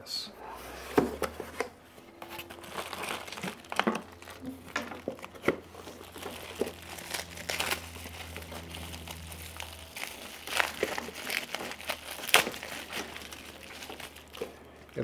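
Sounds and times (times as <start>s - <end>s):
plastic bag crinkling: 2.1s - 15.0s.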